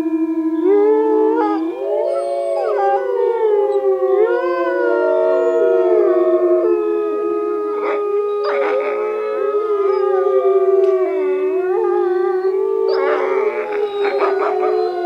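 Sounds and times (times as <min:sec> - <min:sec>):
wolf pack howling: 0:00.0 - 0:15.0.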